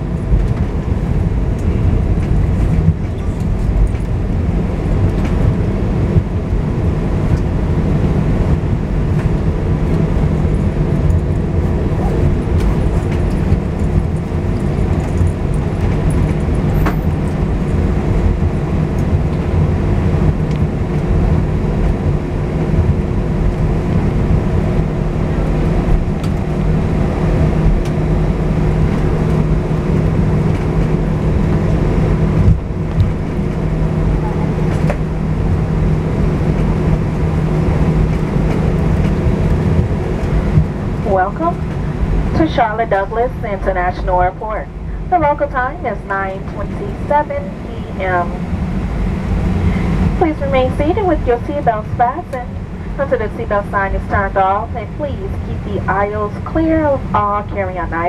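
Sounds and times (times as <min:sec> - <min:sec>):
jet engines roaring in cabin: 0:00.0 - 0:58.0.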